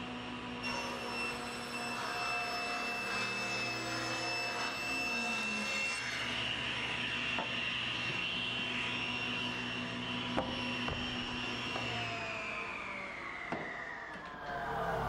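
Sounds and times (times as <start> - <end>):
table saw whining: 0.0 - 15.0.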